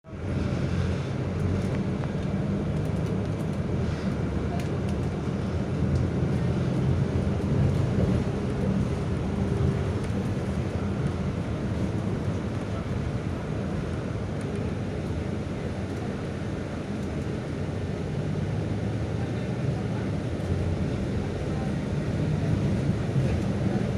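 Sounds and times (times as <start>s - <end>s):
bus diesel engine drone: 0.0s - 23.9s.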